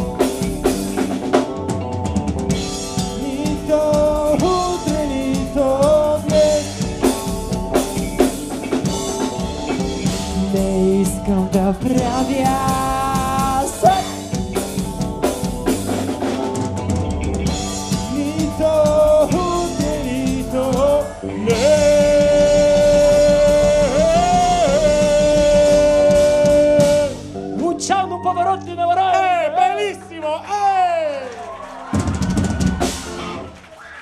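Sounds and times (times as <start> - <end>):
drum kit: 0.0 - 27.9, 31.7 - 33.7
electric guitar: 0.0 - 28.9
bass guitar: 0.0 - 31.1, 31.8 - 33.7.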